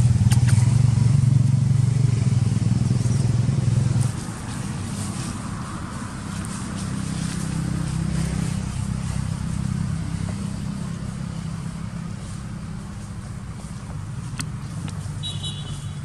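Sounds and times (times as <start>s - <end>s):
vehicle engine passing by: 0.0s - 16.0s.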